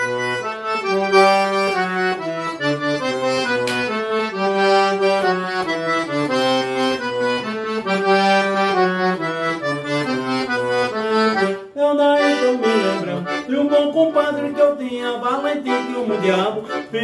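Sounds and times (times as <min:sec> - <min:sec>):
accordion playing chords and melody: 0:00.0 - 0:17.0.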